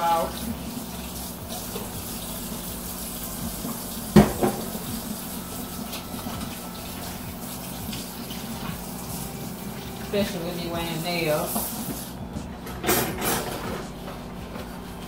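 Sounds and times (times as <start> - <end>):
faucet running into sink: 0.0 - 12.2.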